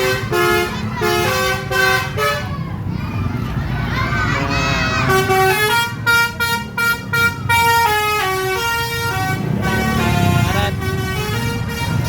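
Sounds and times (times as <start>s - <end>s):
musical bus horn tune: 0.0s - 2.5s, 4.4s - 12.0s
low engine rumble: 0.0s - 12.0s.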